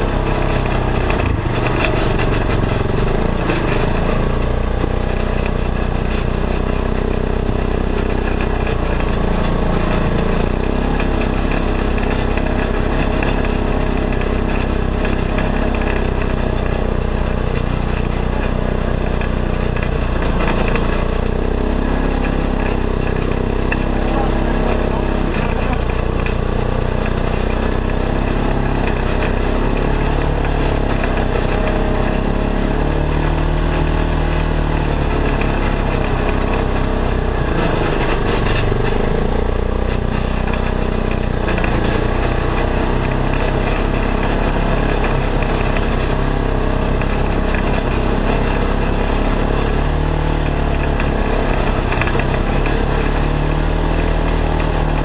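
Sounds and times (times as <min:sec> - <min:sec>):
road and wind noise: 0:00.0 - 0:55.0
vehicle engine running: 0:00.0 - 0:55.0.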